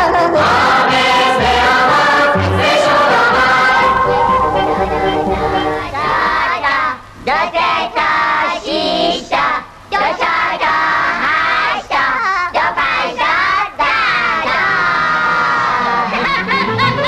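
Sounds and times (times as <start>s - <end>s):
children singing over music: 0.0s - 17.0s.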